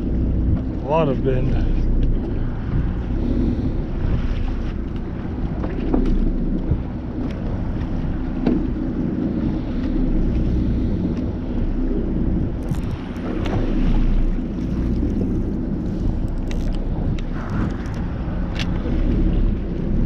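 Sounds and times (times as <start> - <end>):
boat engine rumble: 0.0 - 20.0
wind buffeting microphone: 0.0 - 20.0.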